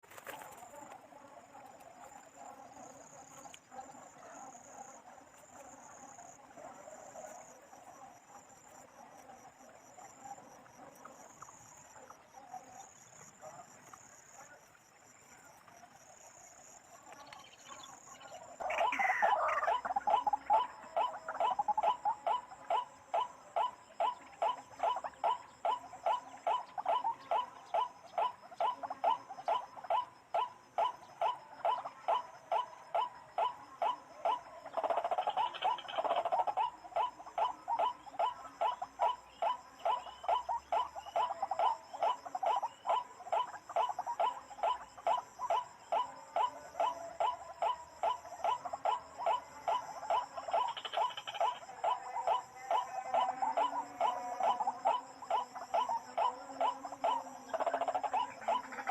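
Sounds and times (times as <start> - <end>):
faint insect chirring: 0.0 - 58.9
waterhen calling: 0.0 - 58.9.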